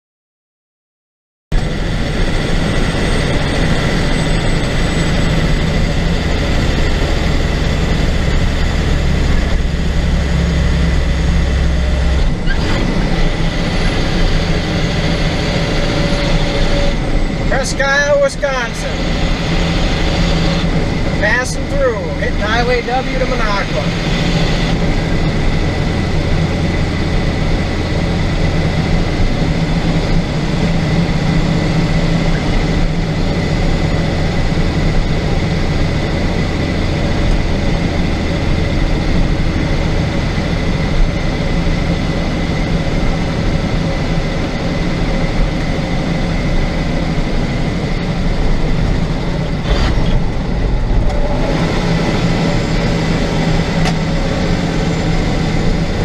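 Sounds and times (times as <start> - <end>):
road noise: 1.5 - 56.0
truck engine hum: 1.5 - 56.0.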